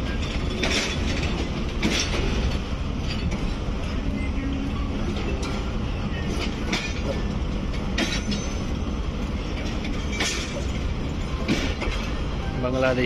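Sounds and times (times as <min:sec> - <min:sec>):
wheels clacking over rail joints: 0:00.0 - 0:04.2, 0:04.8 - 0:13.0
train rumbling: 0:00.0 - 0:13.0.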